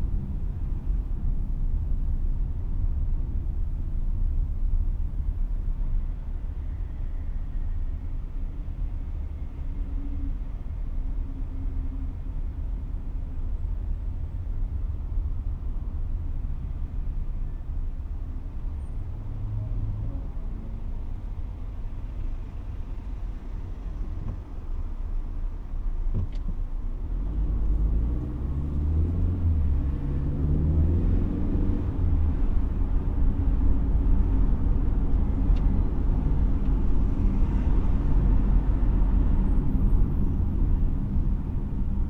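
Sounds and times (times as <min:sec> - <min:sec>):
car engine and road rumble: 0:00.0 - 0:42.0.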